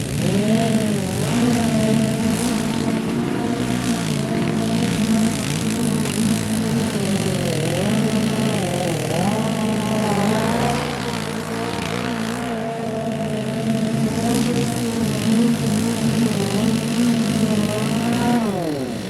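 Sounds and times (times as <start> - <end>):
small petrol engine running: 0.0 - 19.0.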